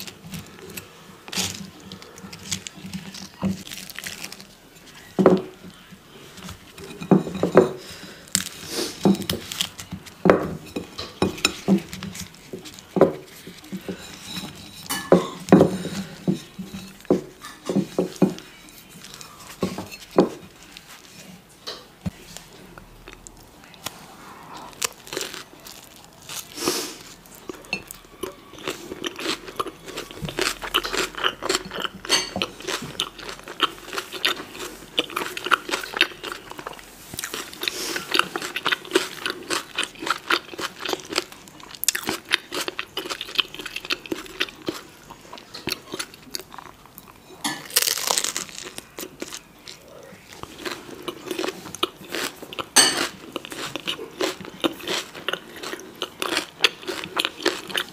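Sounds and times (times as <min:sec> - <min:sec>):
crunchy vegetables being chewed: 0:00.0 - 0:57.9.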